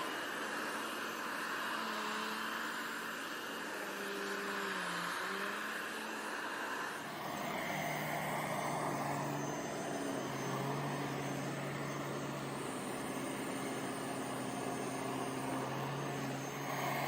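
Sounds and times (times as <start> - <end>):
vacuum cleaner motor humming: 0.0 - 17.0.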